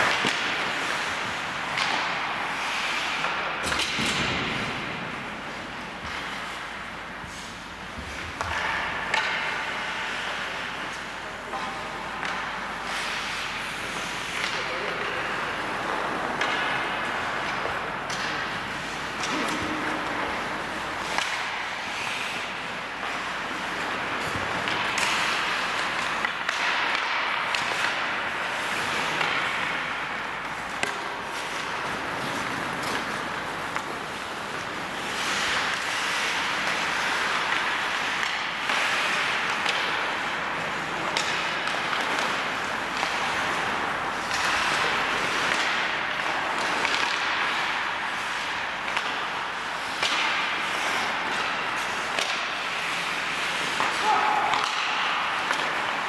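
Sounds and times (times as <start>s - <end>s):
hockey sticks and puck clacking: 0.0s - 56.0s
skate blades scraping ice: 0.0s - 56.0s.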